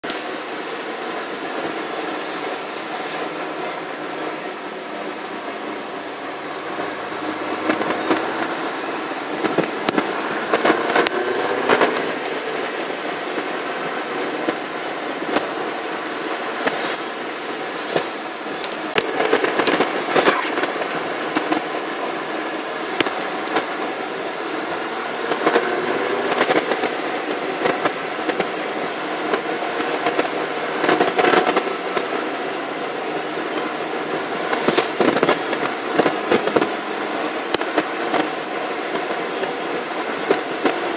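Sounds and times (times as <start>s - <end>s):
vehicle road and engine noise: 0.0s - 40.9s.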